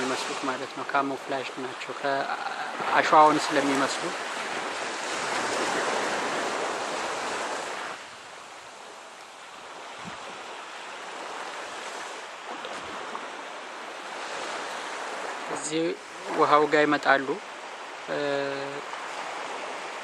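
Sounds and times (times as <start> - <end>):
surf rushing: 0.0 - 20.0
wind on a beach: 0.0 - 20.0.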